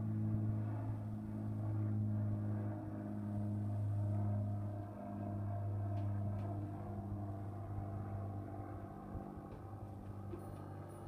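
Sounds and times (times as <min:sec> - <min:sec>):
airplane engine hum: 0:00.0 - 0:11.0.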